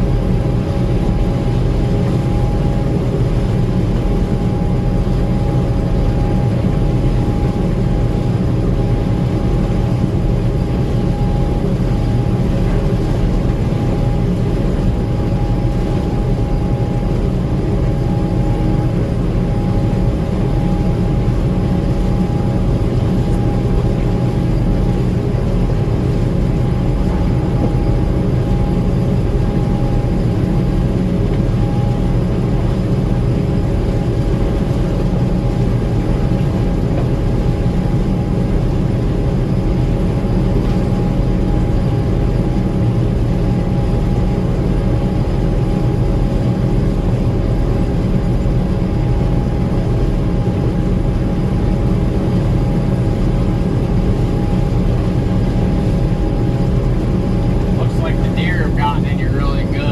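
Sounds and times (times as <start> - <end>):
combine harvester engine drone: 0.0 - 59.9
high machinery whine: 0.0 - 59.9.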